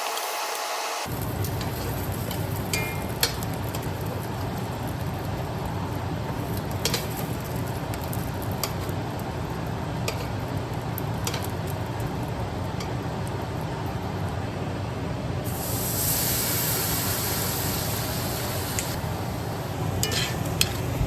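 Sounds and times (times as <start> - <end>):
meat searing in a pan: 0.0 - 14.2, 15.4 - 21.0
stove fan humming: 0.0 - 21.0.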